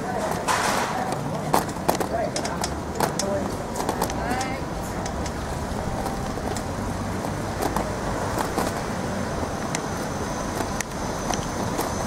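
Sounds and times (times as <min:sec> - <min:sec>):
bicycle camera rattling: 0:01.0 - 0:12.0.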